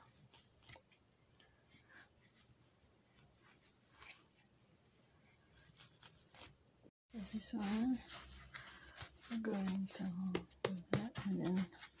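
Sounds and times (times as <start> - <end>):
hands kneading bread dough: 0.0 - 12.0.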